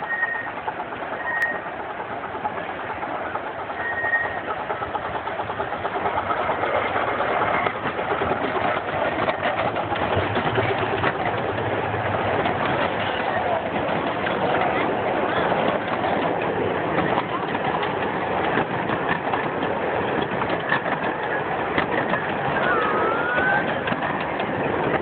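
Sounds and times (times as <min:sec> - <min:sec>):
small locomotive chugging: 0:00.0 - 0:25.0
wheels clicking over track: 0:00.0 - 0:25.0.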